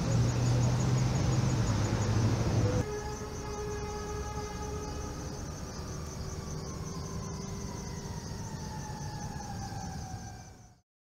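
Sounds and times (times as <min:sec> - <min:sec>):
high-pitched insect trill: 0:00.0 - 0:10.8
siren long falling tone: 0:01.8 - 0:10.8.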